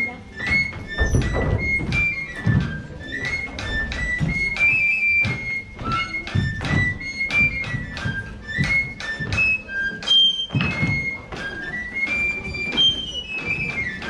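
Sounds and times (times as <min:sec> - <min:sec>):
flute-like dance music: 0:00.0 - 0:14.0
shoes stamping on wooden stage: 0:00.0 - 0:14.0.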